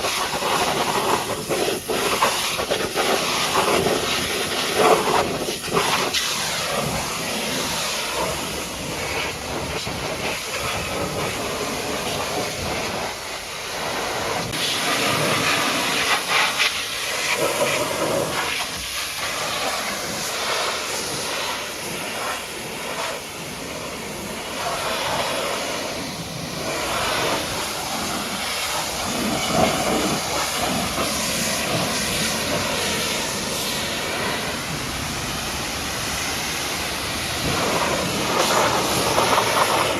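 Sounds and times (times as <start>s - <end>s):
pressure washer jet spraying: 0.0s - 39.9s.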